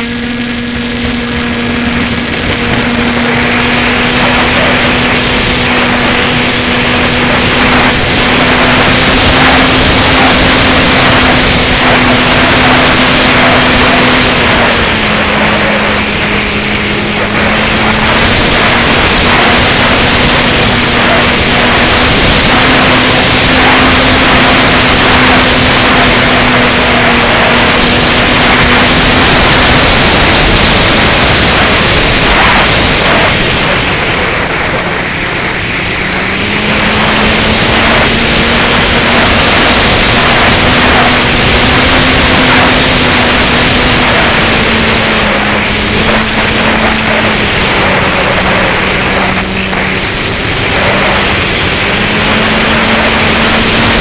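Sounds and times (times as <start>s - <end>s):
electric motor whine: 0.0s - 54.0s
rushing air on microphone: 0.0s - 54.0s.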